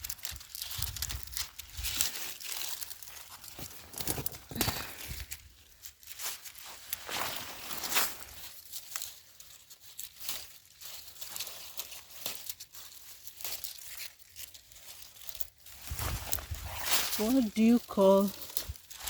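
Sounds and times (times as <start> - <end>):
dry plants crackling and rustling: 0.0 - 19.0.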